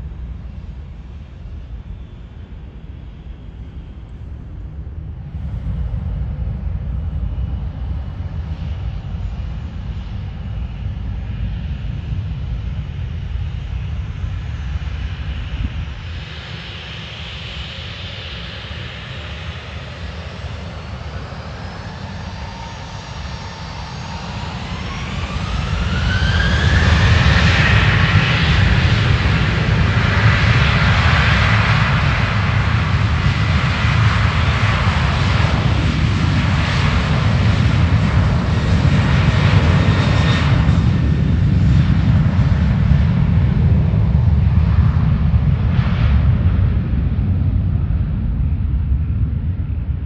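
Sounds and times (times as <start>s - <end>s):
loud steady jet noise: 0.0s - 50.0s.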